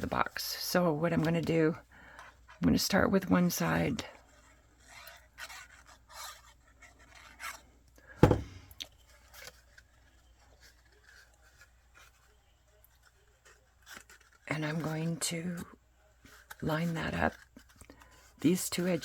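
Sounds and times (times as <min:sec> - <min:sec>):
paper rustling and scraping: 0:00.0 - 0:19.0.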